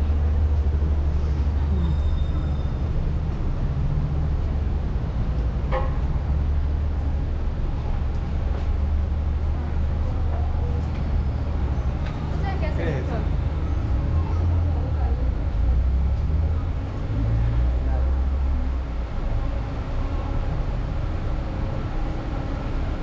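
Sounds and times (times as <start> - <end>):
rumble of vehicle engines and tyres: 0.0 - 23.0.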